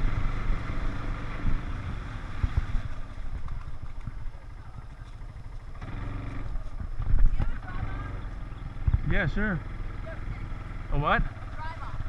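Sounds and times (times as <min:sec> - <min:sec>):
atv engine humming: 0:00.0 - 0:12.0.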